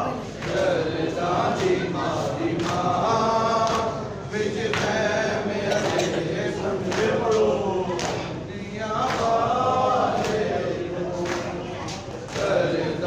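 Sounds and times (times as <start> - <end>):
group of men chanting: 0.0 - 13.0.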